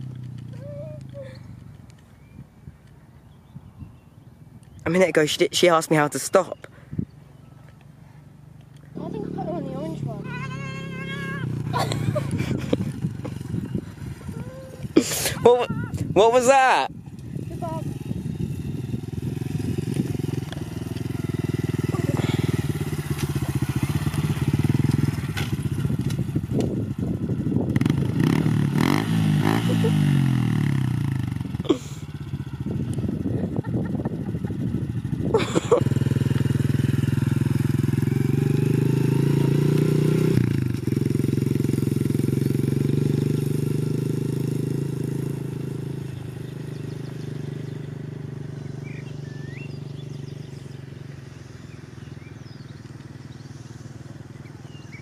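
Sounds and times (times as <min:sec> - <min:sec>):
small motorbike engine running: 0:00.0 - 0:02.0, 0:08.7 - 0:16.1, 0:16.9 - 0:55.0.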